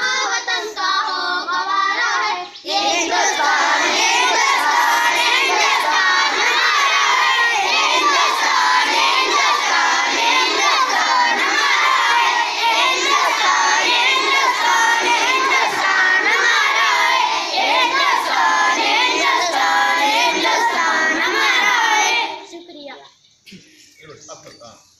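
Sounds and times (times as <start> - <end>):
children singing in unison: 0.0 - 22.5.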